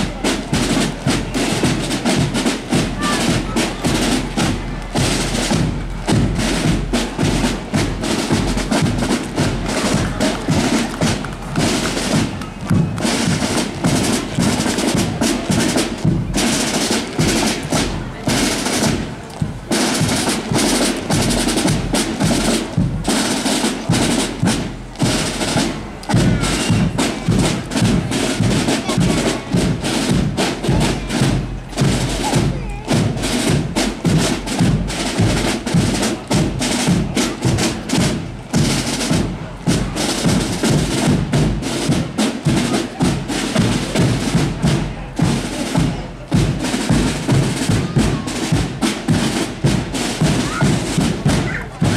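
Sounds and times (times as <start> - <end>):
bass drum: 0.0 - 23.2, 23.8 - 51.9
snare drums with rolls: 0.0 - 51.9.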